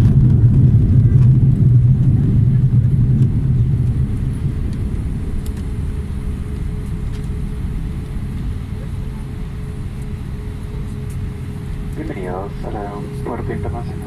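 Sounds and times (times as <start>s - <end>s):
engine and wheel rumble: 0.0s - 14.0s.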